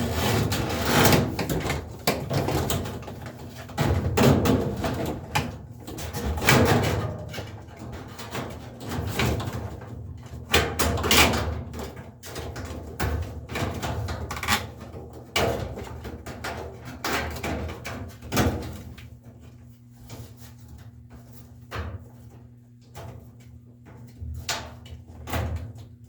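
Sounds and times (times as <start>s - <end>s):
washer parts knocking and rattling: 0.0s - 26.0s.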